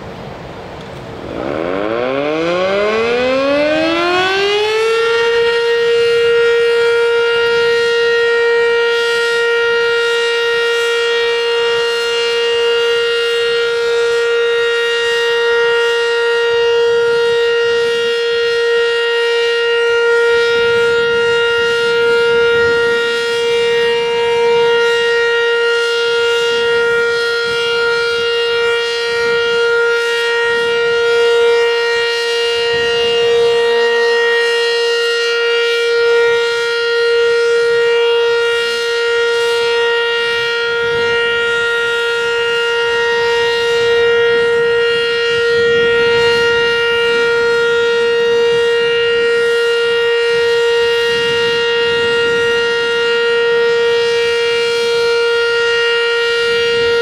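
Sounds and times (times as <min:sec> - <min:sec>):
warning siren steady tone: 0:00.0 - 0:57.0.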